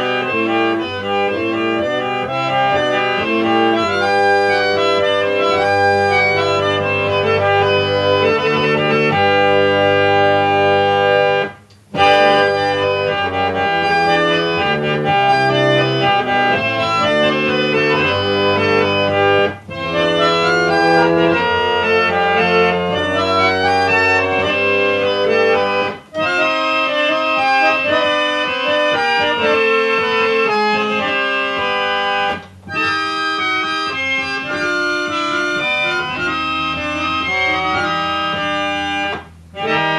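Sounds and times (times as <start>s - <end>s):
reed organ playing: 0.0s - 39.9s.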